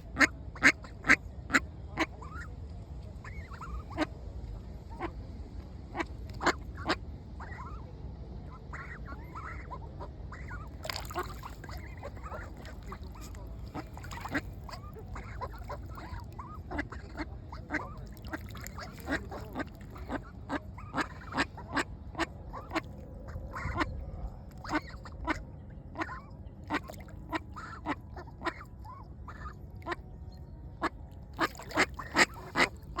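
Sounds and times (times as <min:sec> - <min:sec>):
ducks quacking: 0:00.0 - 0:02.5, 0:03.2 - 0:04.1, 0:05.9 - 0:07.8, 0:08.5 - 0:24.0, 0:24.6 - 0:30.0, 0:30.8 - 0:33.0
low steady rumble: 0:00.0 - 0:33.0.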